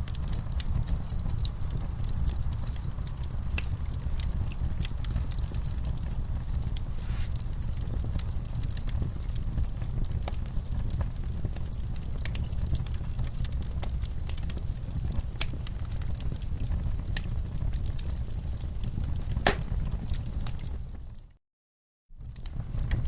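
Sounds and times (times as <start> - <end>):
low rumble of flames: 0.0 - 21.4, 22.1 - 23.0
wood fire crackling and popping: 0.0 - 21.4, 22.2 - 23.0.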